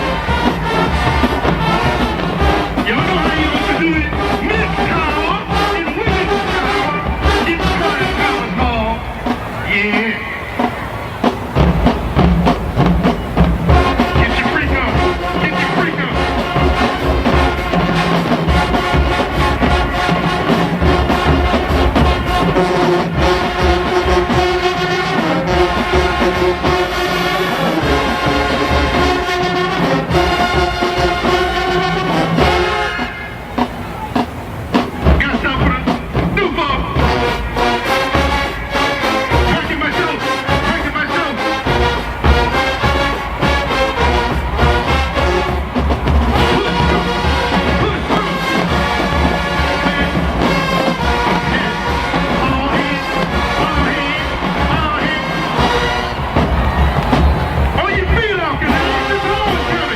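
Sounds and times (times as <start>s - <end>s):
marching band brass horns: 0.0s - 59.9s
steady drum beat: 0.0s - 59.9s.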